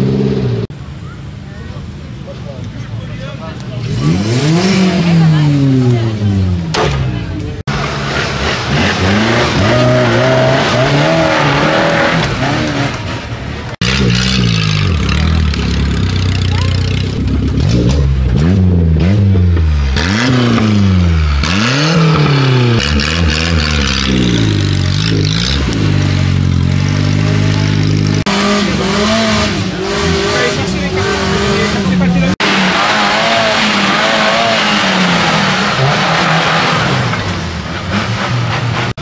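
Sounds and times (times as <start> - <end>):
off-road vehicle engine revving: 3.6 - 39.0.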